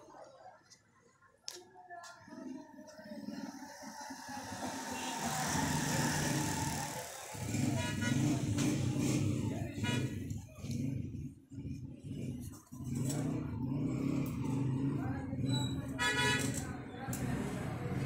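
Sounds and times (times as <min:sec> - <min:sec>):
low rumble of road traffic: 0:01.4 - 0:18.0.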